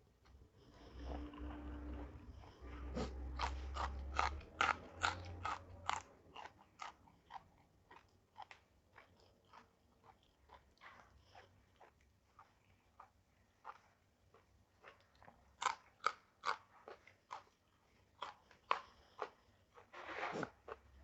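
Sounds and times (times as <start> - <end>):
person chewing crunchy food: 0.2 - 21.0.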